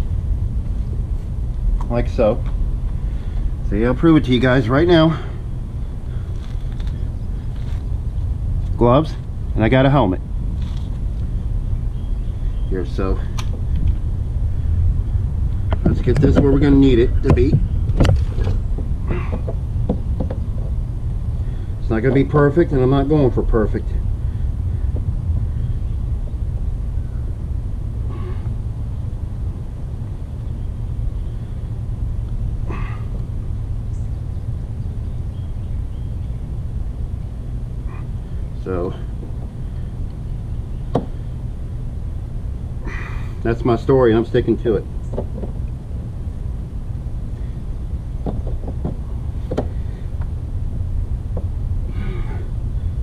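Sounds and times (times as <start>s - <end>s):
wind rumble on microphone: 0.0s - 42.7s.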